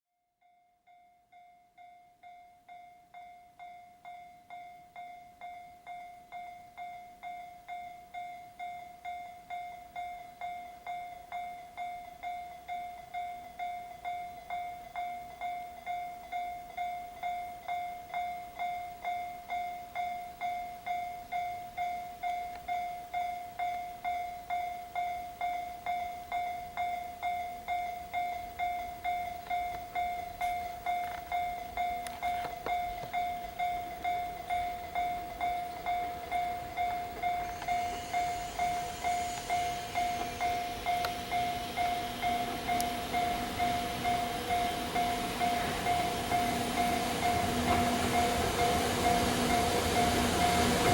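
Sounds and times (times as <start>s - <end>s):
level-crossing warning bell ringing: 0.7s - 50.9s.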